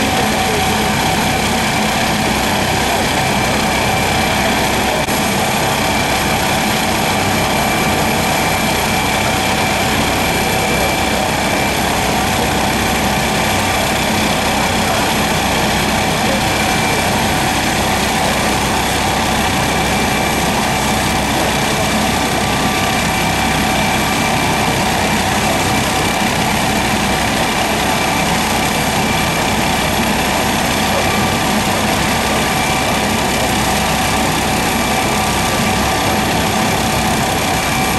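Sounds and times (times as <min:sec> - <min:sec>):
helicopter rotor rush: 0:00.0 - 0:37.9
helicopter turbine whine: 0:00.0 - 0:37.9.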